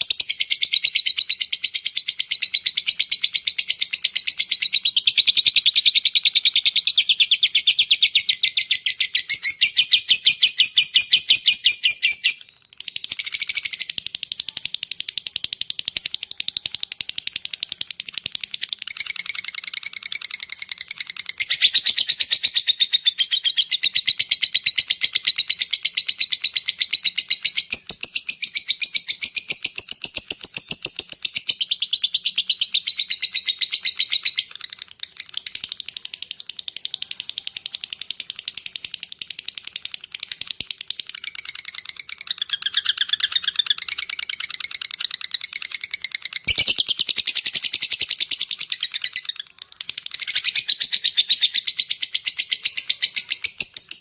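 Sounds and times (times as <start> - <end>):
lovebird rapid chattering call: 0.0 - 54.0.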